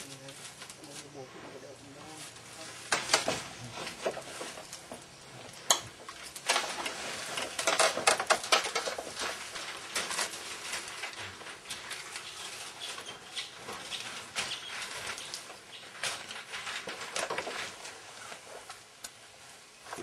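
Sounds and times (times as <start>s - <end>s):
small knocks clicks and scrapes: 2.3s - 20.0s.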